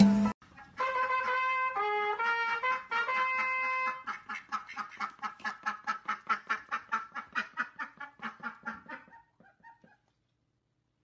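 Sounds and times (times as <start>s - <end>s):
duck quacking rapidly: 0.6s - 10.0s.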